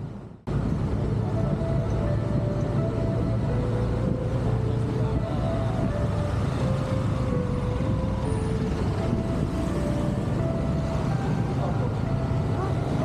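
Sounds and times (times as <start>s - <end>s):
passing traffic: 0.0s - 13.0s
wind on microphone: 0.0s - 13.0s.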